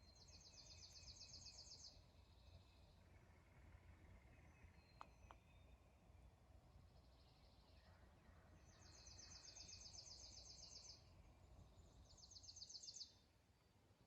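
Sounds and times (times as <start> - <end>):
songbird trill: 0.0 - 14.0.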